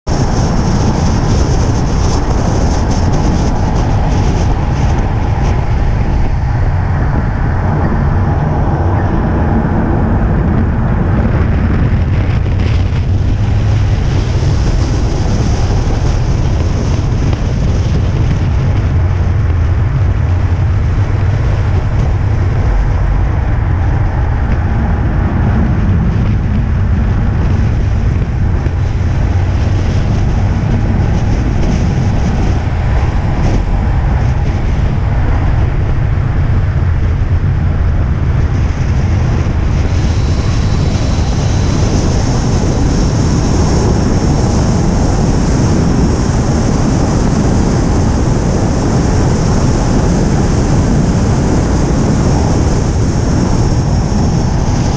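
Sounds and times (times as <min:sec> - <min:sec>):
car engine drone: 0:00.0 - 0:54.9
tyre noise on wet road: 0:00.1 - 0:54.9.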